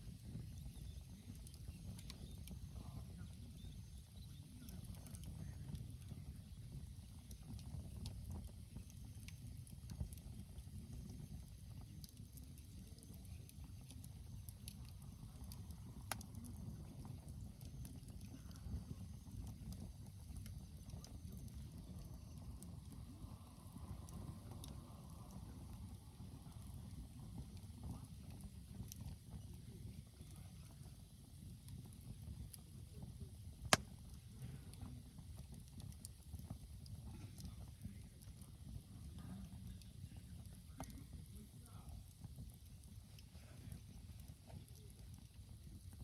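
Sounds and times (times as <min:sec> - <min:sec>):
campfire crackling and popping: 0:00.0 - 0:46.0
low steady fire rumble: 0:00.0 - 0:46.0.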